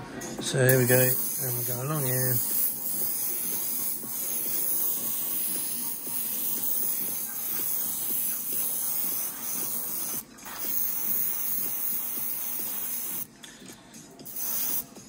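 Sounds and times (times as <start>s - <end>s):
airbrush spraying hiss: 0.7s - 13.3s, 14.2s - 15.0s.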